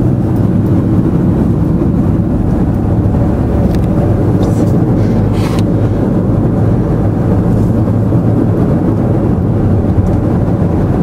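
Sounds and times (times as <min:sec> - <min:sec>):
car rumbling from inside cabin: 0:00.0 - 0:11.0.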